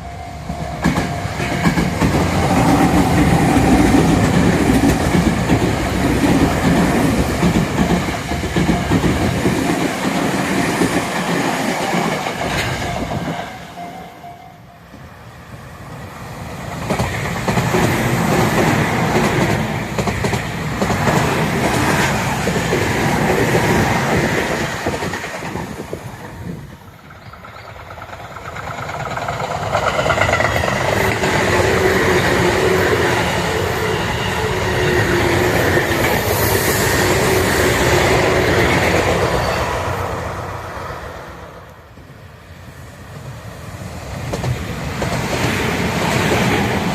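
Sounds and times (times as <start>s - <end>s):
electric trains running past: 0.0s - 46.9s
steady train whine: 0.0s - 46.9s.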